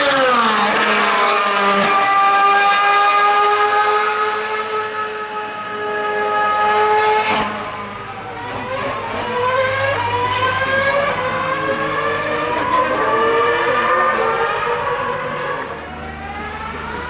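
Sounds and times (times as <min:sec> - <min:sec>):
engine revving through gear changes: 0:00.0 - 0:17.0
racing car engine at high revs: 0:00.0 - 0:17.0.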